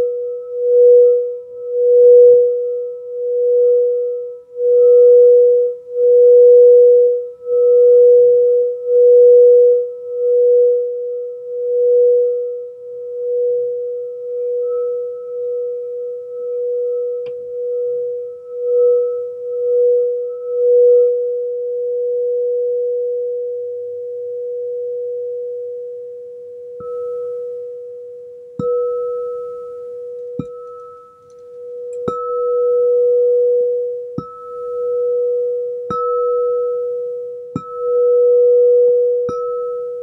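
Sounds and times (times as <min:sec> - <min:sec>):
singing bowl tone: 0:00.0 - 0:40.0.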